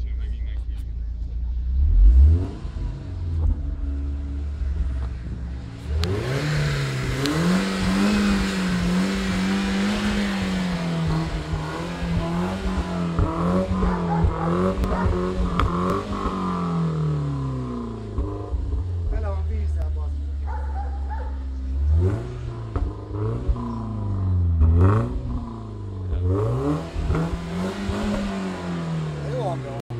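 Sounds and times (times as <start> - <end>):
car engine idling and revving: 0.0 - 29.9.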